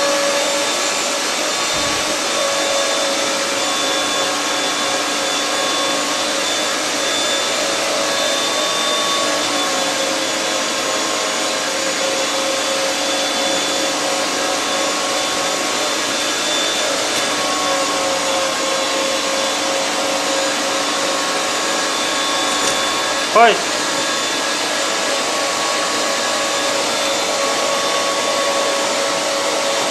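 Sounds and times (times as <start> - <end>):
electric meat grinder running: 0.0 - 29.9.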